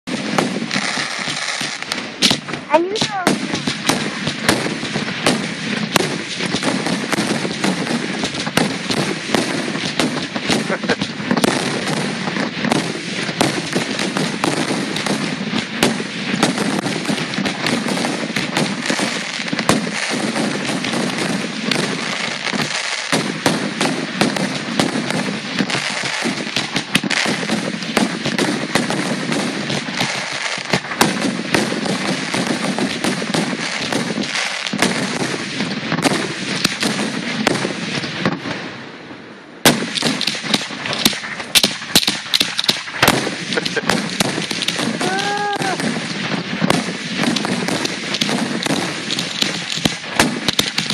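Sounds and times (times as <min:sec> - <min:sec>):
fireworks bangs and crackle: 0:00.0 - 0:50.9
loud firework bang: 0:00.1 - 0:38.8, 0:39.6 - 0:50.9.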